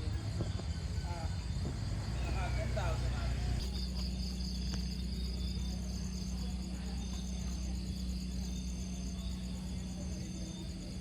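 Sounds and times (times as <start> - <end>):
insects chirping chorus: 0.0 - 11.0.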